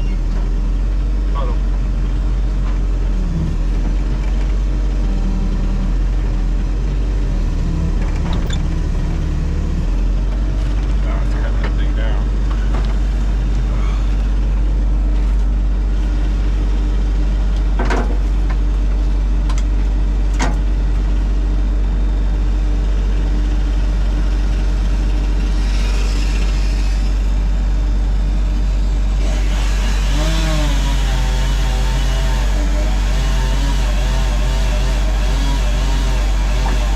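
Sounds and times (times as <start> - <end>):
excavator diesel engine droning: 0.0 - 36.9
pitched whine: 0.0 - 36.9.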